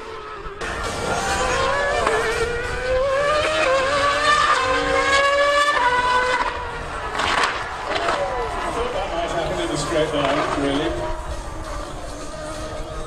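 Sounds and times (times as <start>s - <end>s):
racing engines revving: 0.0s - 13.0s.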